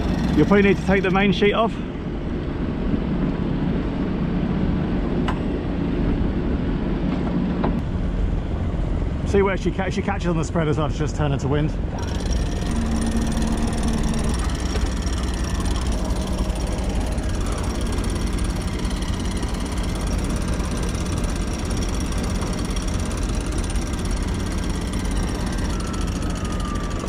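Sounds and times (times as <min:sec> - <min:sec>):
boat engine rumbling: 0:00.0 - 0:27.0.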